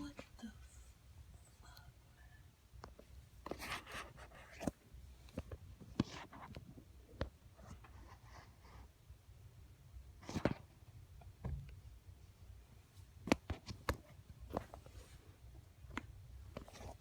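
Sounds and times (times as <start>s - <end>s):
faint low steady hum: 0.0s - 17.0s.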